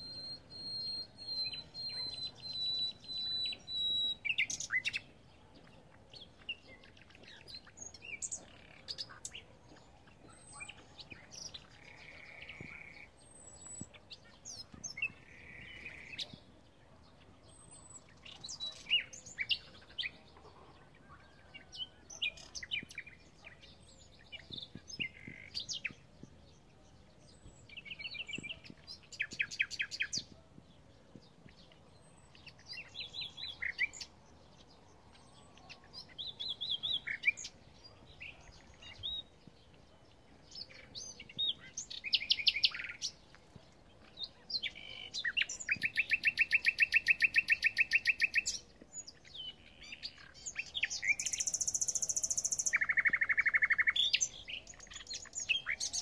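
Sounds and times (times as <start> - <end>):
nightingale singing: 0.0 - 16.6, 21.0 - 30.4, 31.0 - 43.2, 44.0 - 56.0.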